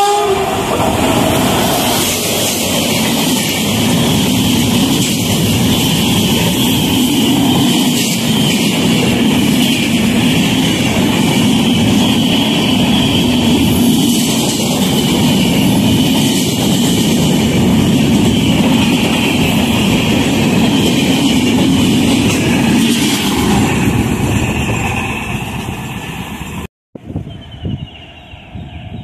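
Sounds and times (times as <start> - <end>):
train wheels rumbling on rails: 0.0 - 26.7.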